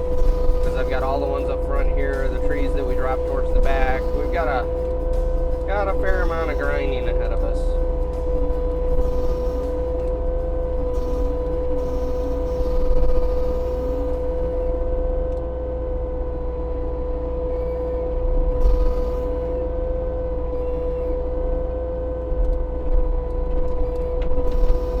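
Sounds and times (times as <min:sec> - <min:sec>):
high whine of mulching head: 0:00.0 - 0:25.0
loader diesel engine: 0:00.0 - 0:25.0.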